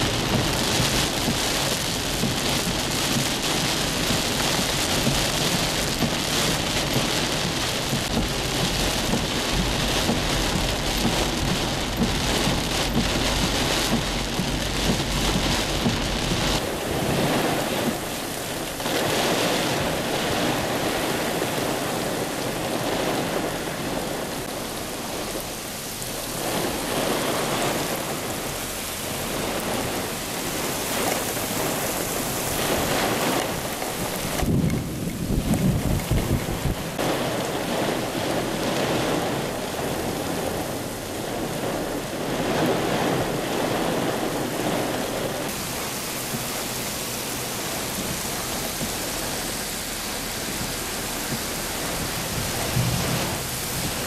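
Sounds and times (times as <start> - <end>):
car road rumble: 0.0 - 54.0
heavy rain: 0.0 - 54.0
wind gusts: 0.0 - 54.0.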